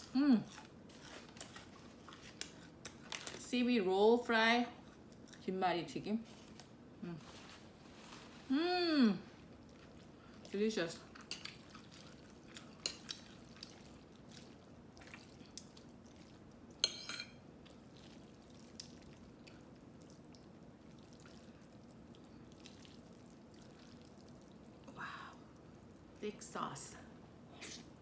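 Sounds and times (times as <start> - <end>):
wet sticky noodle sounds: 0.0 - 3.5, 6.2 - 16.9, 17.5 - 26.6.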